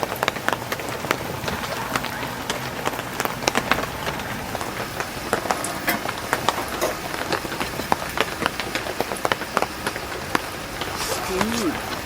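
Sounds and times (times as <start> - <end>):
heavy rain on tent fabric: 0.0 - 12.0.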